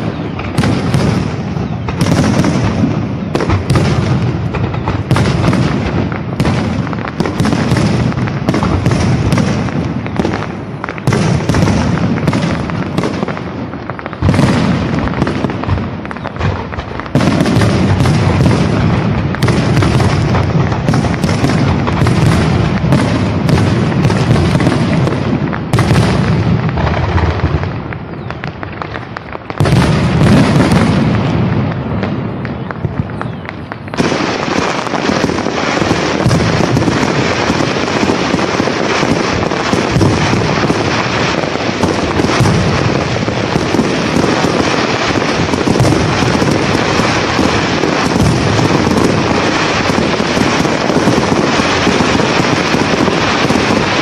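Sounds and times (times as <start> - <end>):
deep booms of fireworks shells: 0.0 - 54.0
fireworks crackling: 0.0 - 54.0.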